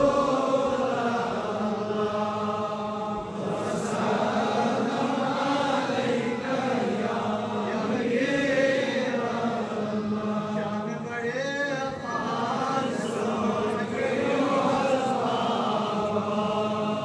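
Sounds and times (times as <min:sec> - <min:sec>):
man chanting recitation: 0:00.0 - 0:17.0.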